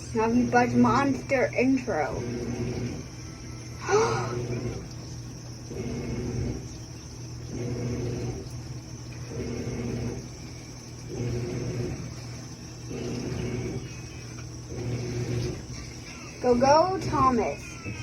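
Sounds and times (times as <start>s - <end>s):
steady low hum: 0.0s - 18.0s
washing machine motor humming: 0.0s - 18.0s.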